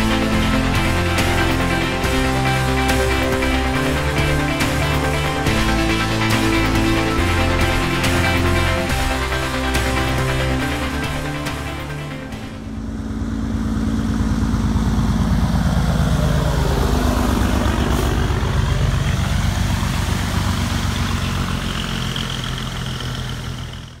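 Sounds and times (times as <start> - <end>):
diesel truck driving past: 0.0 - 24.0.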